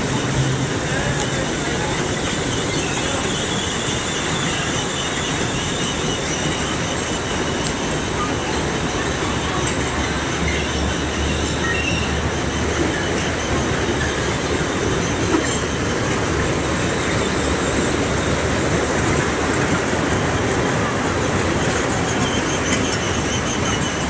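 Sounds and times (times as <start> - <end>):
carousel machinery running: 0.0 - 24.0.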